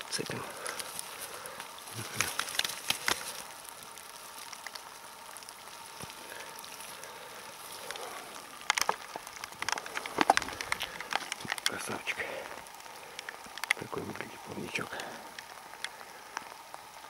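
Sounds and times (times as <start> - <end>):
dry leaves crackling and rustling: 0.0 - 17.0
steady hiss: 0.0 - 17.0.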